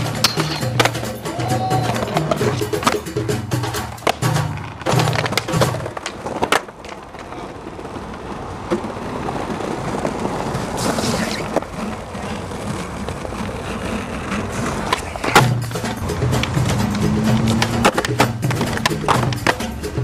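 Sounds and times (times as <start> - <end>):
skateboard clacks: 0.0 - 20.0
skateboard trucks grinding concrete: 0.0 - 20.0.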